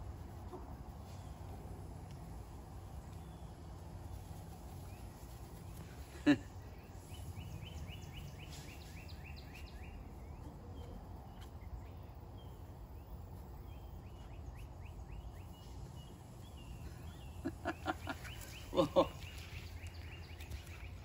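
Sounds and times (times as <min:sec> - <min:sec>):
low steady rumble: 0:00.0 - 0:21.0
bird chirping: 0:02.9 - 0:21.0.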